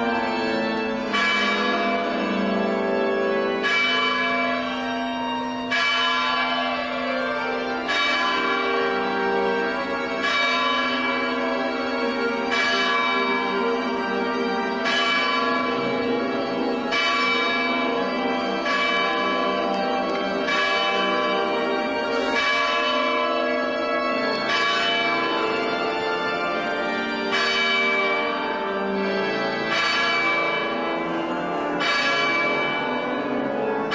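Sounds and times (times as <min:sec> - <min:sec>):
church bell ringing: 0:00.0 - 0:33.9.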